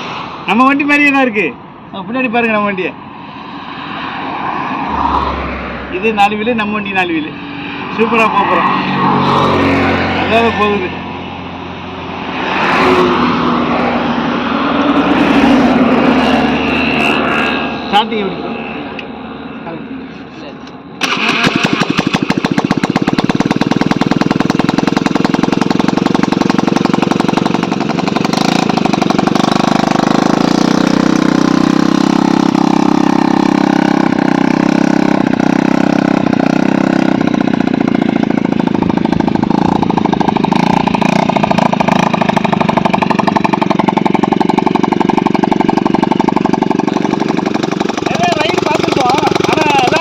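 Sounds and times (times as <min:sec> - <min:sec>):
quad bike engine revving: 0:05.9 - 0:18.3, 0:21.0 - 0:50.0.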